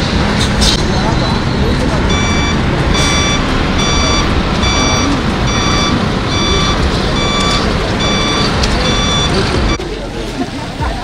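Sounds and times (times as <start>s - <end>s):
lorries driving through floodwater: 0.0s - 11.0s
reversing alarm beeping: 0.9s - 9.8s.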